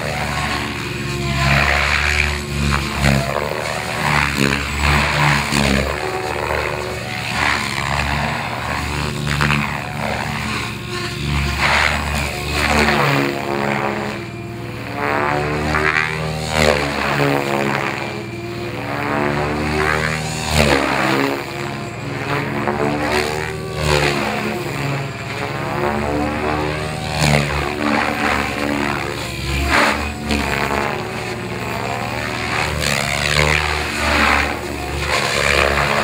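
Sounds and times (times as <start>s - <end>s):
model helicopter whine: 0.0s - 36.0s.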